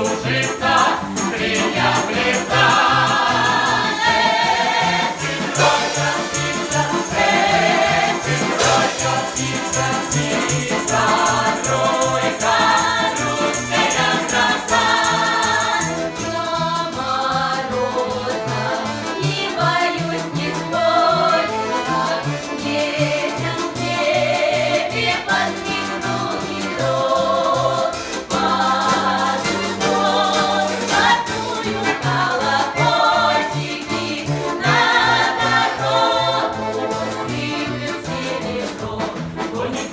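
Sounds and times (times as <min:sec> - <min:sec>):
folk ensemble singing: 0:00.0 - 0:39.9
instrumental accompaniment: 0:00.0 - 0:39.9.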